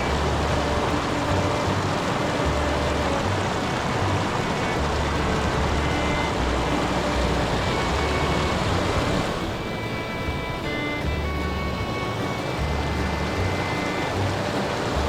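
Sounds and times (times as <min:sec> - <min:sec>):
low rumbles: 0:00.0 - 0:15.0
stream water running over rocks: 0:00.0 - 0:15.0.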